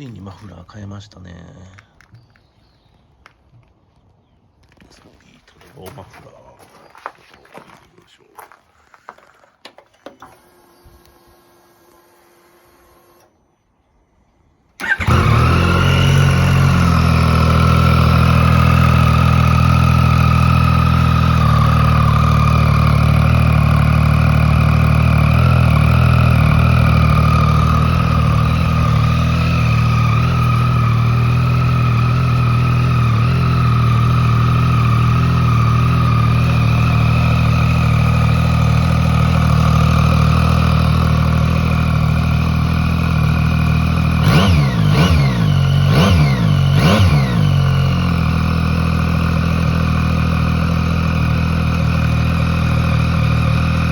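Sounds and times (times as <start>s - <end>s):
motorcycle engine starting and idling: 8.4s - 13.5s, 14.7s - 53.9s.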